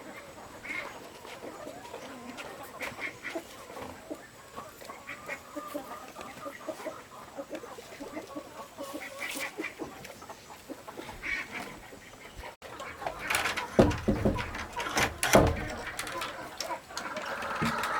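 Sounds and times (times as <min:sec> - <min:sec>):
poultry calling: 0:00.0 - 0:17.9.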